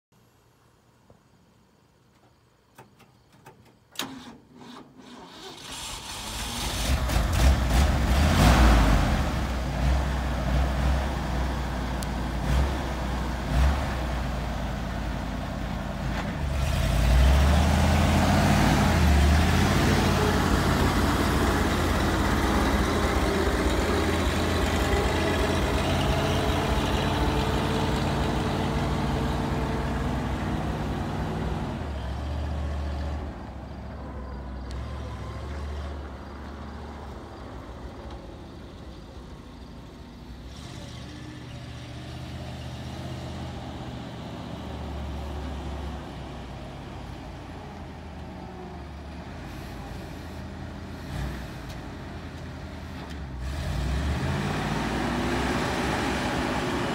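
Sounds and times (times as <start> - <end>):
truck engine starting and revving: 4.0 - 56.9.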